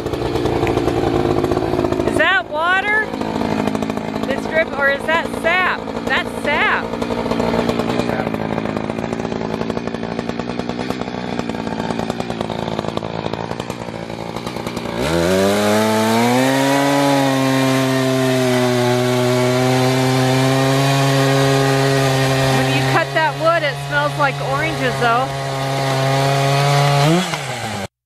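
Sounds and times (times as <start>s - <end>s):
chainsaw revving and cutting wood: 0.0s - 28.0s.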